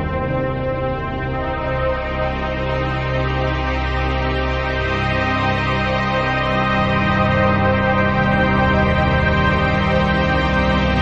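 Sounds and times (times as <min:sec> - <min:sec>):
ambient electronic keyboard chord: 0:00.0 - 0:11.0.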